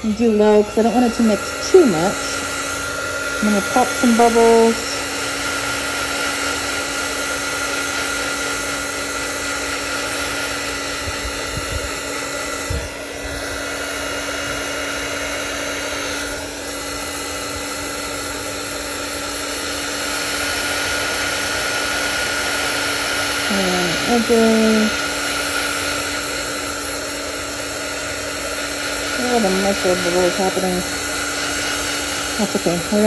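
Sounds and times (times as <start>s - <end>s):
heat gun fan whining: 0.0s - 33.0s.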